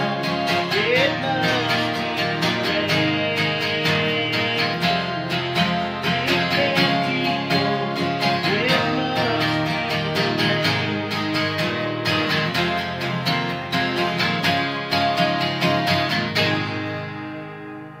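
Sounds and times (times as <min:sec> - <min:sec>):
acoustic guitars playing country: 0:00.0 - 0:18.0.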